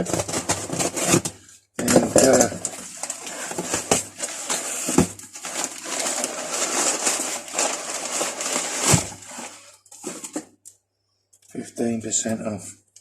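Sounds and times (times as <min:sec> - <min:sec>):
packaging rustling and tearing: 0:00.0 - 0:10.5.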